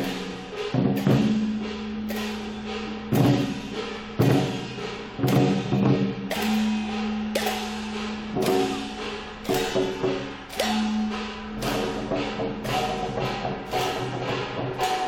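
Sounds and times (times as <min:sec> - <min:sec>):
drum strokes: 0:00.0 - 0:15.0
hand cymbals crashing: 0:00.0 - 0:15.0.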